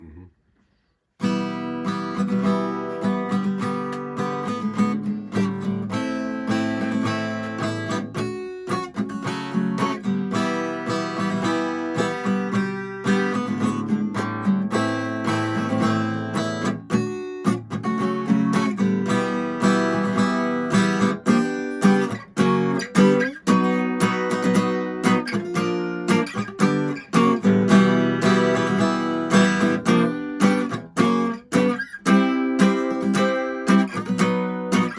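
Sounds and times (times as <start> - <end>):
acoustic guitar strumming chords: 1.2 - 34.9.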